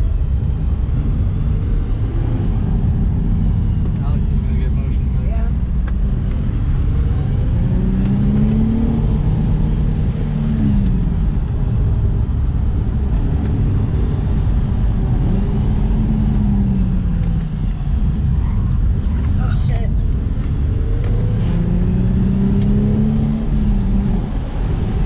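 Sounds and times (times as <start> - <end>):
car engine revving: 0.0 - 25.0
low road rumble: 0.0 - 25.0.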